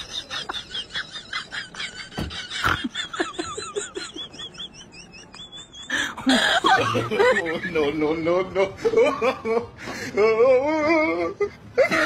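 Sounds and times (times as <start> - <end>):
men's voices and laughter: 0.0 - 12.0.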